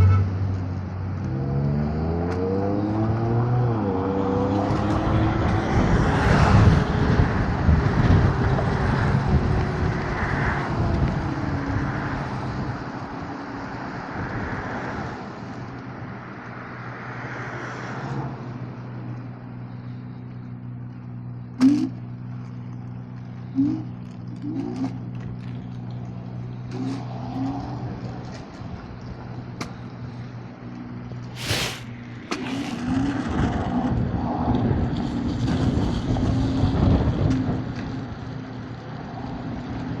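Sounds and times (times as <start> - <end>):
electric scooter hum: 0.0 - 40.0
wind and road noise: 0.0 - 40.0.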